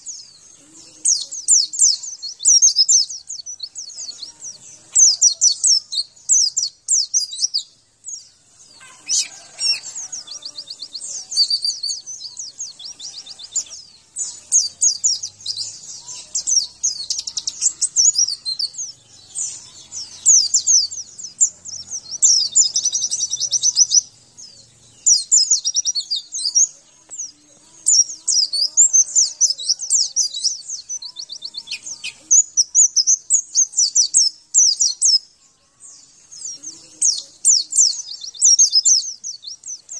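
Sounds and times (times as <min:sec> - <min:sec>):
bird twittering and trilling: 0:00.0 - 0:39.9.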